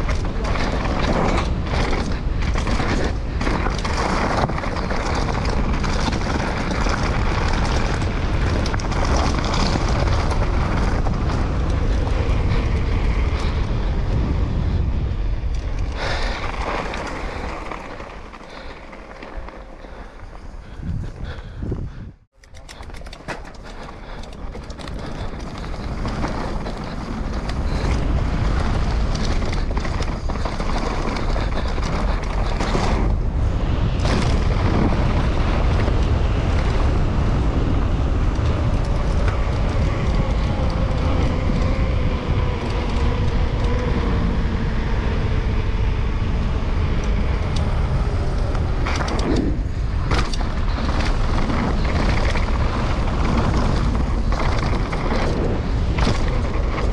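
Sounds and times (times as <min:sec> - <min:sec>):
tyre and trail rumble: 0:00.0 - 0:56.9
wind rushing over microphone: 0:00.0 - 0:56.9.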